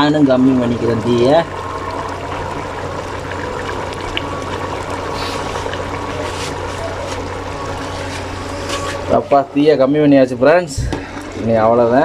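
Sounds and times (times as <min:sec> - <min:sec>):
water boiling hard in a pot: 0:00.0 - 0:12.0.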